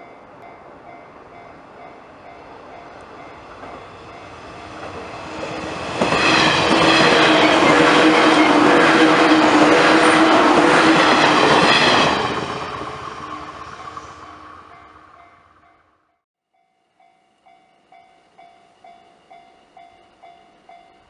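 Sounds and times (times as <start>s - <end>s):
electric train passing: 0.0s - 16.2s, 17.0s - 21.0s.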